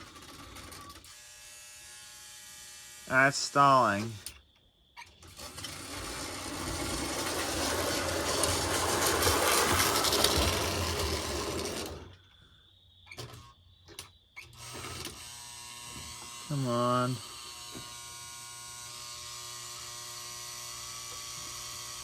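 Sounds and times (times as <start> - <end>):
toy train motor whirring rattle: 0.0 - 4.4, 5.0 - 12.2, 14.4 - 22.0.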